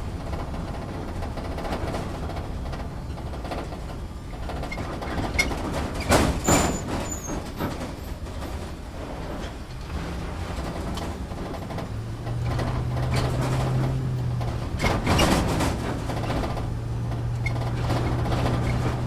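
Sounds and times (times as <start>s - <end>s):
engine and road rumble: 0.0s - 19.0s
vehicle body creaks and rattles: 0.0s - 19.0s.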